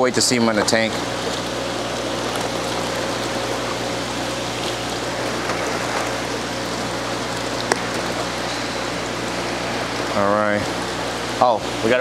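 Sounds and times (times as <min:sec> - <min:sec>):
low steady hum: 0:00.0 - 0:12.0
water pouring and splashing: 0:00.0 - 0:12.0.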